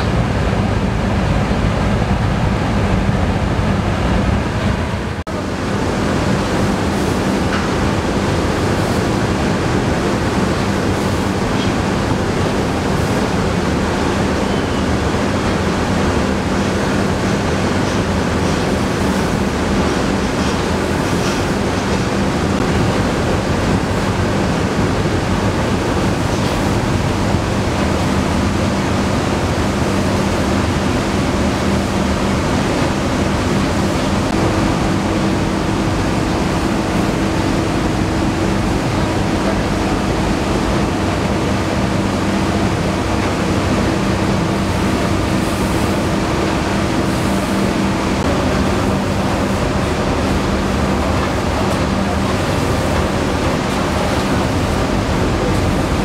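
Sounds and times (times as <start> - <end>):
low machinery hum: 0.0 - 56.0
mill machinery rushing noise: 0.0 - 56.0.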